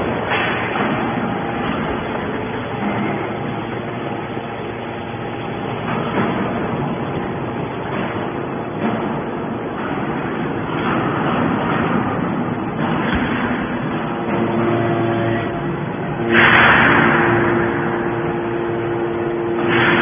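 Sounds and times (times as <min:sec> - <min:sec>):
baler pump and press humming: 0:00.0 - 0:20.0.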